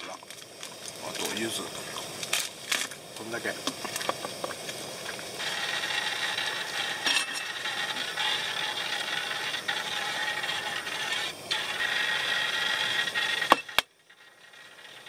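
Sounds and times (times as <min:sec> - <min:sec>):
broth boiling with rattling bubbles: 0:00.0 - 0:15.0.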